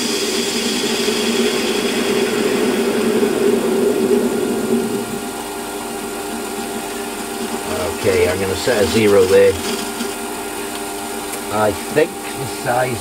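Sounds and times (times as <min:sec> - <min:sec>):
lathe tool cutting metal: 0:00.0 - 0:10.4
metal lathe humming: 0:00.0 - 0:13.0.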